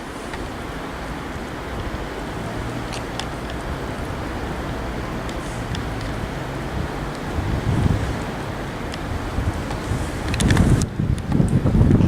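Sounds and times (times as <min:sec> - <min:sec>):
electric train running hum: 0:00.0 - 0:12.0.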